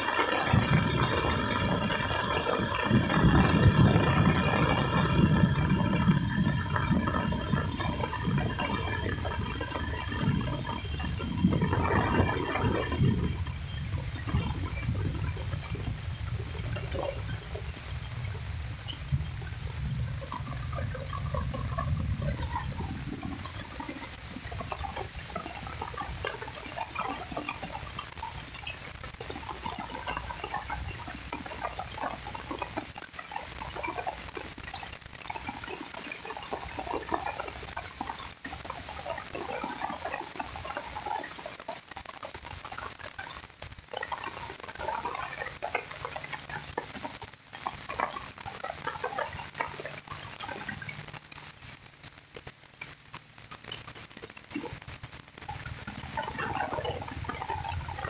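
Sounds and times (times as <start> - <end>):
rain falling on water: 0.0 - 58.0.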